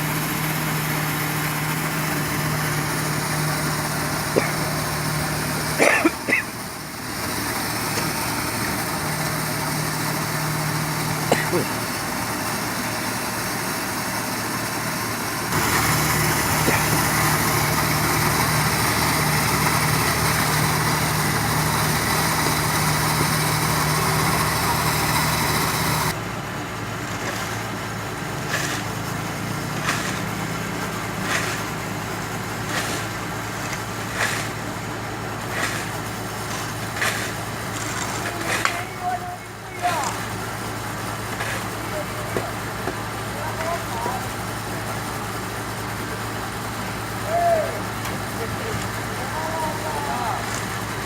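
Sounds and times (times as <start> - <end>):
diesel machinery engine: 0.0 - 51.0.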